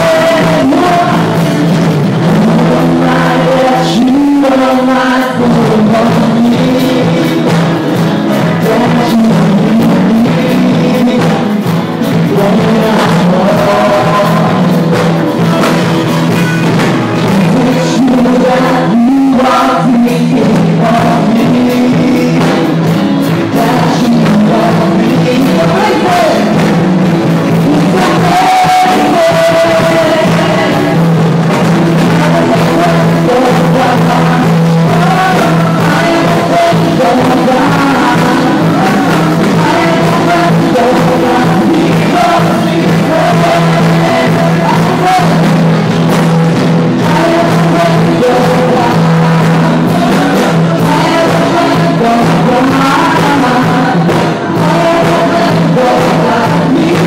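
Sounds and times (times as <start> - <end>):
worship band with singers: 0.0 - 57.0.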